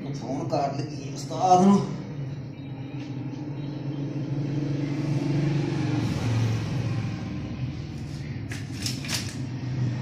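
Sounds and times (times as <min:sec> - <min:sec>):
vehicle engine running: 0:01.8 - 0:10.0.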